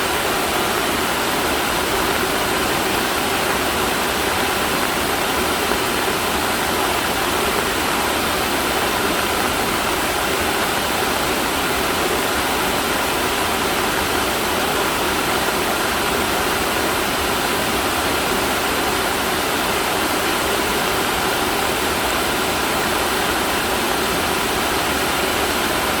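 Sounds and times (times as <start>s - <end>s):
floodwater roaring: 0.0s - 26.0s.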